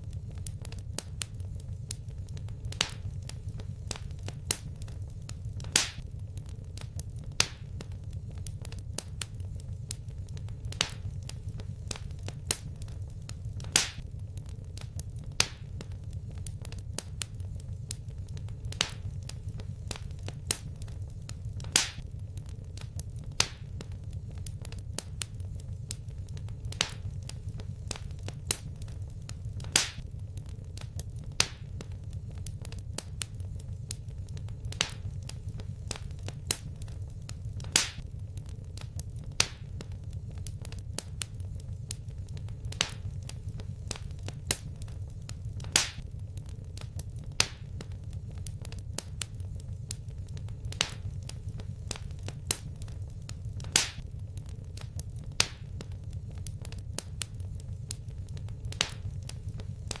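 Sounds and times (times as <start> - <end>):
fireplace fire crackling: 0.0 - 60.0.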